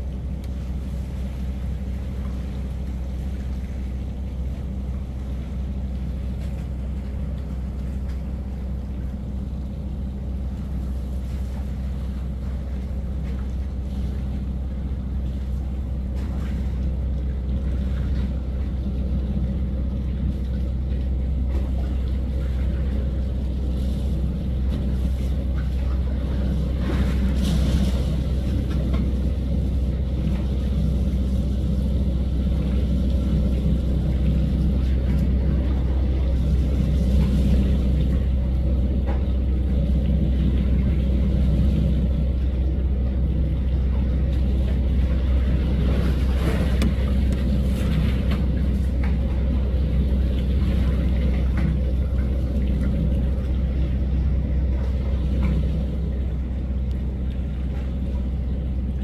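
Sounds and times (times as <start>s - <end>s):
boat engine droning: 0.0s - 59.0s
water wash: 0.0s - 59.0s
wind: 0.0s - 59.0s.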